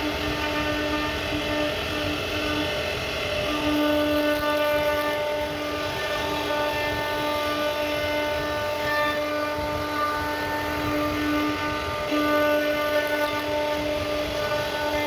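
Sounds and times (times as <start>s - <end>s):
router spindle whining: 0.0s - 15.0s
wood cutting noise: 0.0s - 15.0s.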